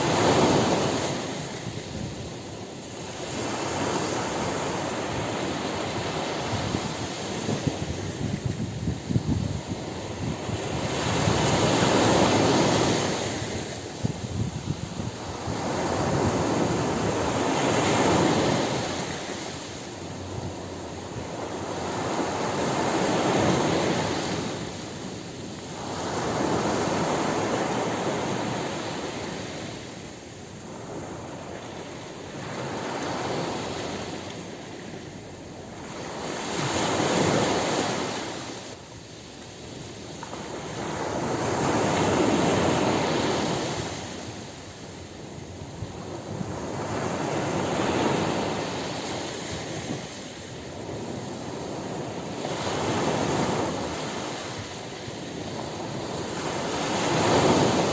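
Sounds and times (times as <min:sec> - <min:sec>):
ocean surf breaking on beach: 0:00.0 - 0:57.9.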